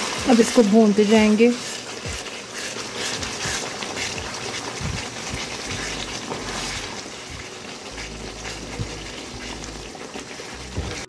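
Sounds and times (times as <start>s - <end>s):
sauce bubbling and sizzling in pan: 0.0s - 11.0s
spoon stirring: 0.0s - 11.0s.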